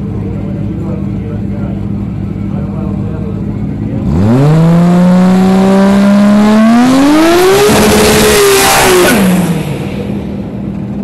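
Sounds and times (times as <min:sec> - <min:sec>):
drag car engine revving: 0:00.0 - 0:11.0.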